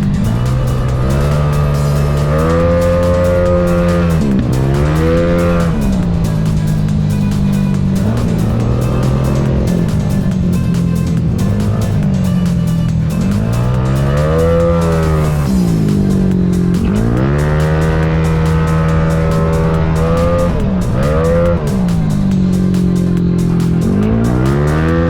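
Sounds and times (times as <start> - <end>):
background music: 0.0 - 25.0
scooter engine revving: 0.0 - 25.0.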